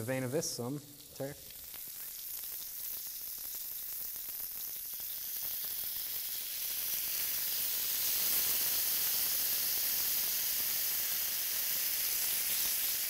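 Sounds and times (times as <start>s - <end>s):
kebabs sizzling on grill pan: 0.0s - 13.0s
sauce hissing on hot grill: 0.8s - 13.0s.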